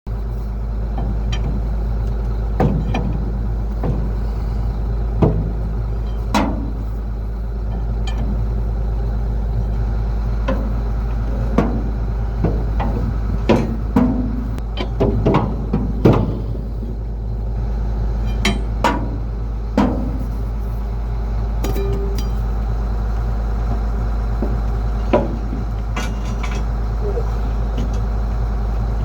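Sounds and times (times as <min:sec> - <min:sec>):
tractor engine running: 0:00.0 - 0:29.0
baler clunking: 0:00.2 - 0:29.0.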